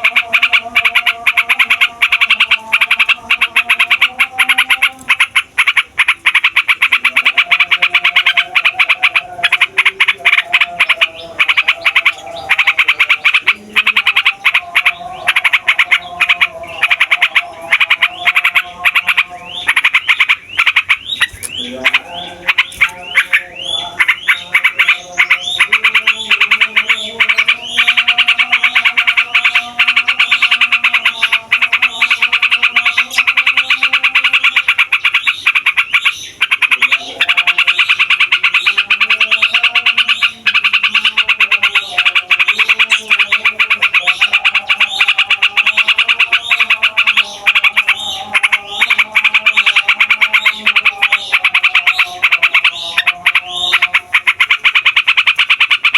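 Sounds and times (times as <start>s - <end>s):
bulbul chattering song: 0.0s - 55.9s.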